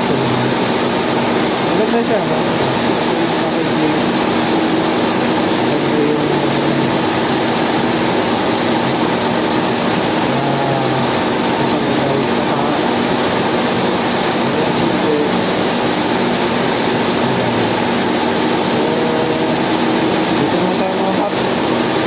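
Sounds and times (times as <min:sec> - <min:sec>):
loud rushing noise: 0:00.0 - 0:22.0.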